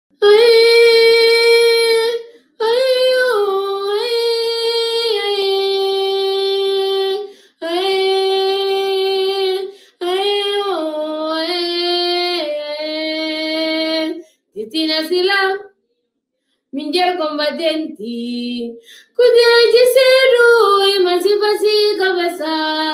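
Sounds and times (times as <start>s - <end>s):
woman singing unaccompanied: 0.1s - 15.7s, 16.8s - 22.9s.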